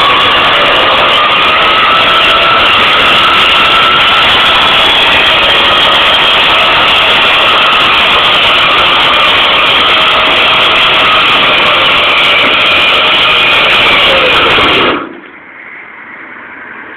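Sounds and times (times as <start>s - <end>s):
tow truck machinery droning: 0.0s - 16.9s.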